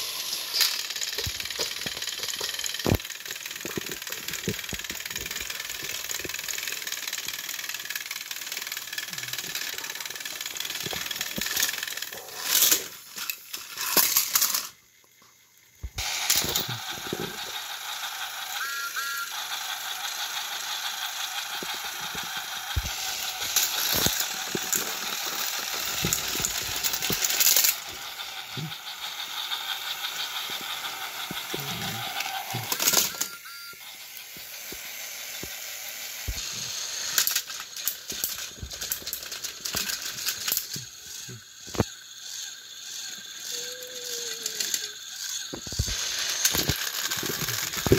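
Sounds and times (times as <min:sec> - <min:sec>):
toy train motors whirring: 0:00.0 - 0:47.9.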